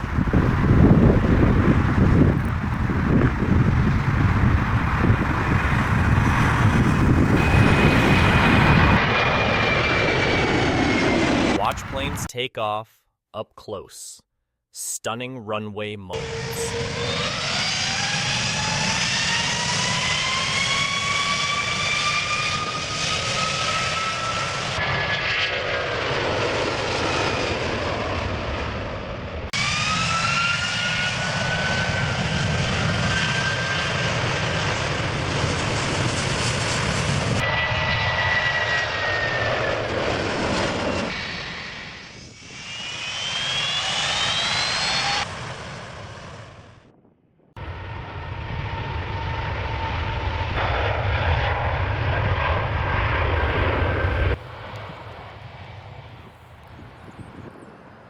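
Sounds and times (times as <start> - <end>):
jet engines roaring: 0.0 - 12.3, 16.2 - 47.0, 47.6 - 58.0.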